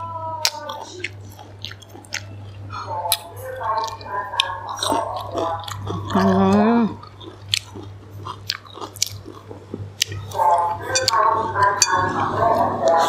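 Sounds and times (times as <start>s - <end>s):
person chewing: 0.4s - 13.0s.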